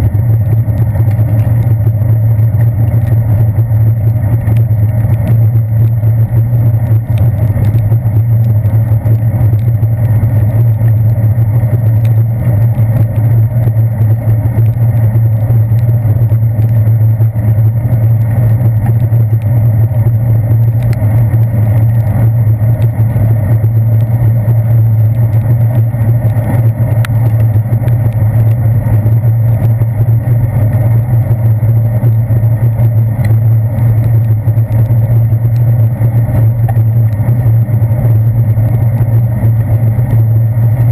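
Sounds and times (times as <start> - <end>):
bicycle rolling on wet pavement: 0.0 - 40.9
raindrops ticking on camera housing: 0.0 - 40.9.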